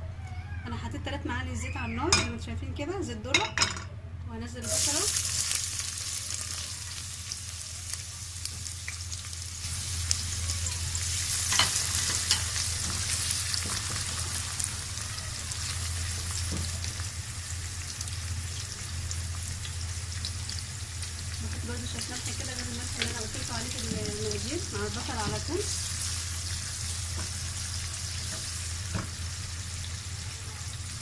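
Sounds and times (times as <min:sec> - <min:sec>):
onion sizzling in oil: 0:04.6 - 0:31.0.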